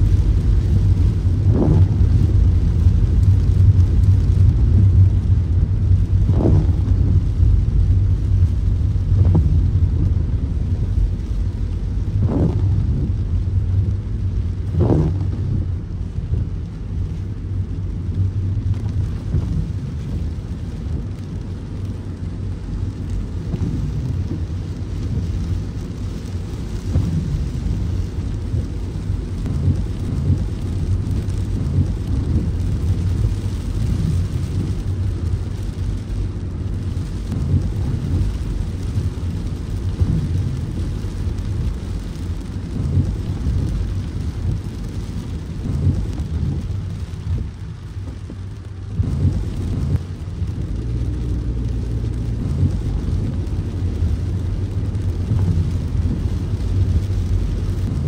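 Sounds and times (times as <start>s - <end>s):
car rumbling on wet road: 0.0s - 58.0s
rain hissing: 0.0s - 58.0s.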